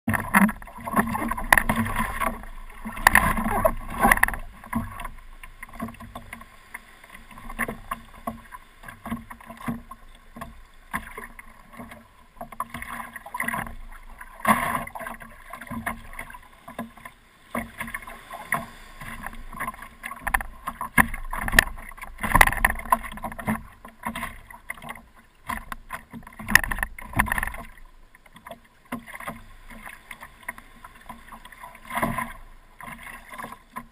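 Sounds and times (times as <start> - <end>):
water splashing against paddleboard: 0.1 - 33.9.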